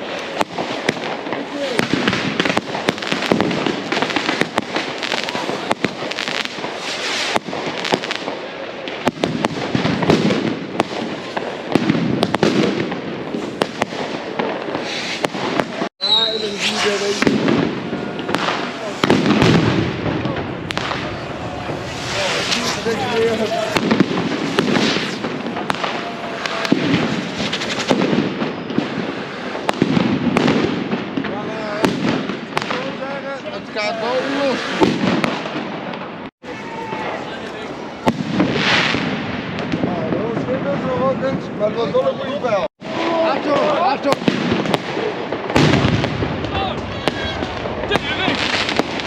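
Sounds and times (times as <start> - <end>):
firecracker bangs: 0.0 - 42.0, 42.8 - 49.0
firecracker crackle: 0.0 - 49.0.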